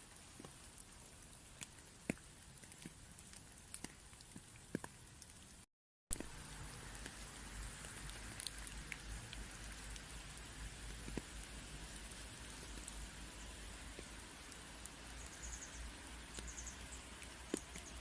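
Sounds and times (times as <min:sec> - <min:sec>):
small ticks and patters: 0:00.0 - 0:18.0.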